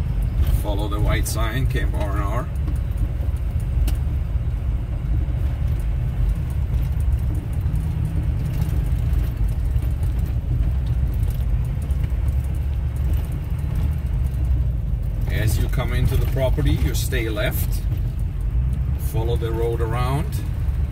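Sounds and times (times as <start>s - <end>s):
engine and tyre rumble: 0.0s - 20.9s.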